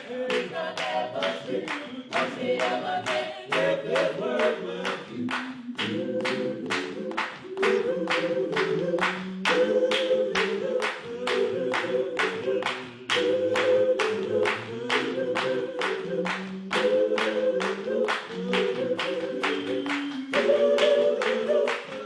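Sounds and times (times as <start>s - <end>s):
choir singing a cappella: 0.0s - 22.0s
hand clapping: 0.0s - 22.0s.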